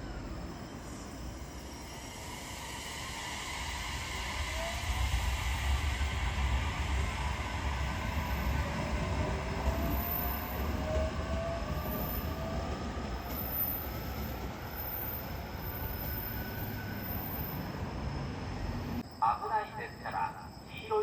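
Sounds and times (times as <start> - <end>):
electric train rumbling: 0.0 - 21.0
faint train whine: 0.0 - 21.0.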